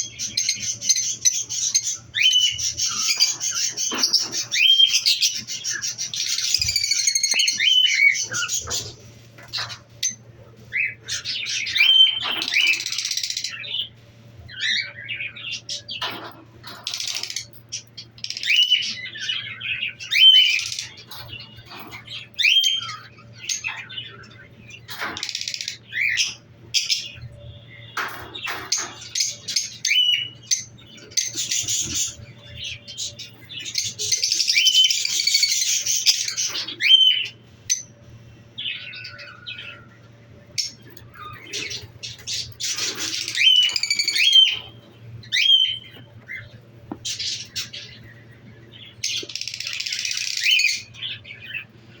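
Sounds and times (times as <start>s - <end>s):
lovebirds shrill chirps: 0.0s - 51.8s
lovebirds scratchy chatter: 0.0s - 52.0s.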